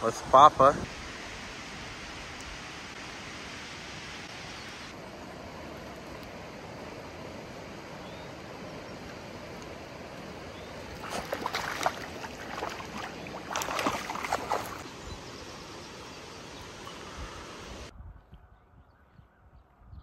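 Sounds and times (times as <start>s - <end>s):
running water: 0.0s - 17.9s.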